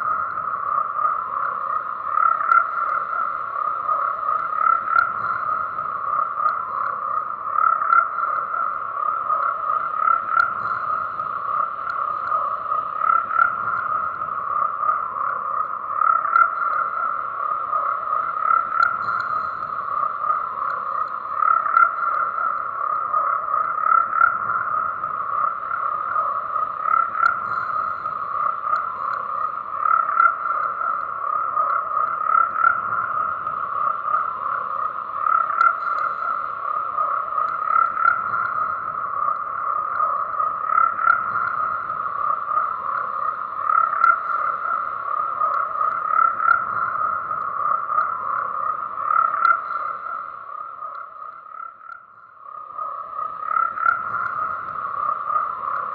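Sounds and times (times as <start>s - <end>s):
chorus of frogs croaking: 0.0s - 55.9s
louder individual frog calls: 0.0s - 55.9s.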